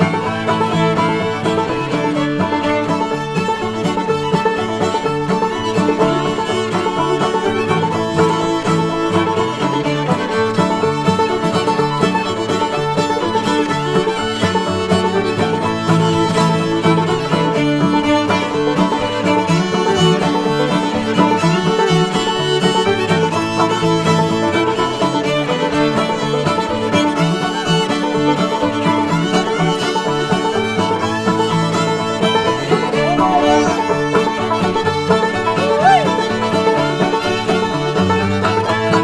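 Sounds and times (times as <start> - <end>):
bluegrass fiddle and banjo music: 0.0 - 39.0.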